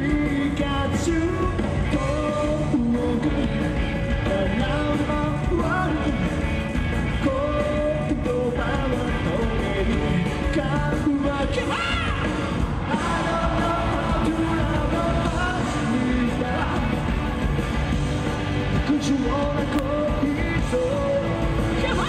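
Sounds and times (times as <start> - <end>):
man singing: 0.0 - 6.5, 7.1 - 17.1, 18.7 - 22.0
electric guitar: 0.0 - 22.0
live rock band playing: 0.0 - 22.0.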